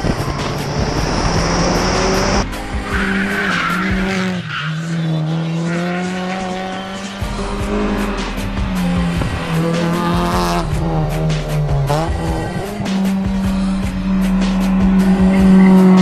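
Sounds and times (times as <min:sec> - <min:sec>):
background music: 0:00.0 - 0:16.0
racing car engines revving: 0:00.0 - 0:16.0.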